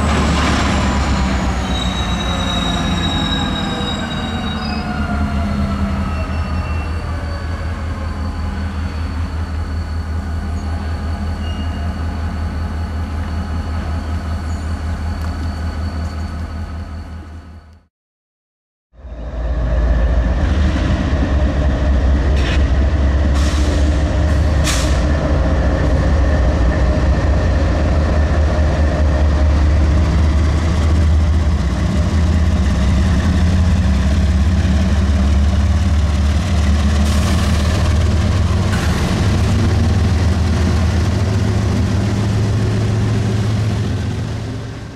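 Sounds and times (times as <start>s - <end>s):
locomotive engine rumbling: 0.0s - 17.8s, 19.0s - 44.9s.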